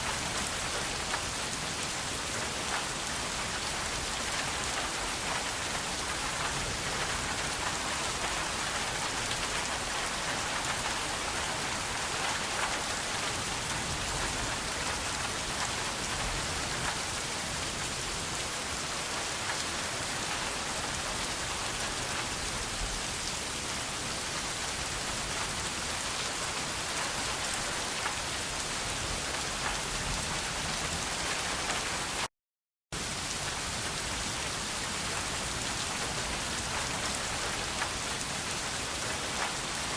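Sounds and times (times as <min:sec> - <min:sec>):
rain falling on a surface: 0:00.0 - 0:32.3, 0:33.0 - 0:39.9.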